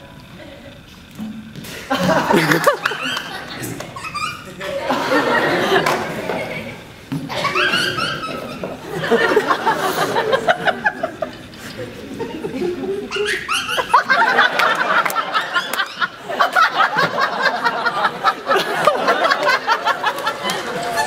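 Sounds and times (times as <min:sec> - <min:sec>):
audience laughing: 0:01.6 - 0:21.0.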